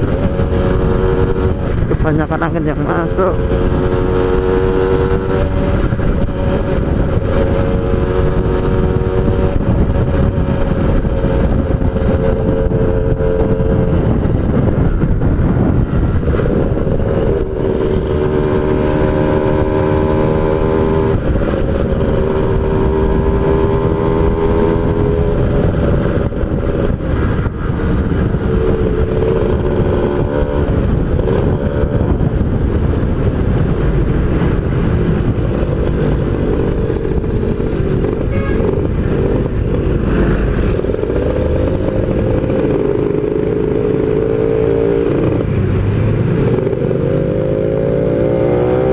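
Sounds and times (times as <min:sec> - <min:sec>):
motorcycle engine revving high: 0:00.0 - 0:48.9
wind on microphone: 0:00.0 - 0:48.9.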